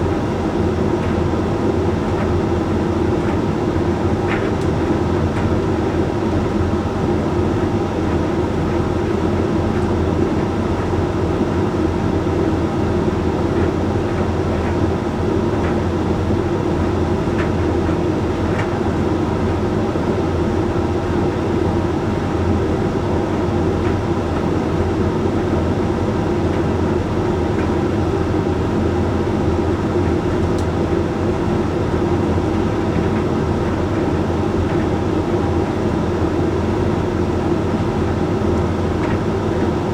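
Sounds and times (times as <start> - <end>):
tumble dryer drum humming: 0.0 - 39.9.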